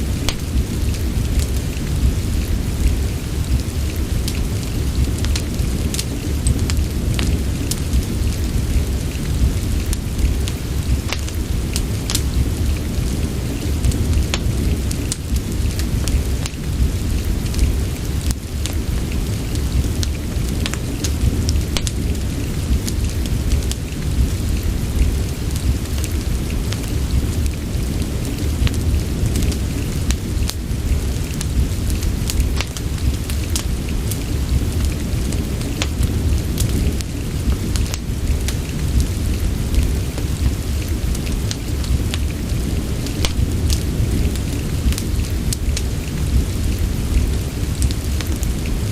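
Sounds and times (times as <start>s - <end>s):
low continuous rumble: 0.0s - 48.9s
steady rain: 0.0s - 48.9s
wood fire crackling: 0.0s - 48.9s.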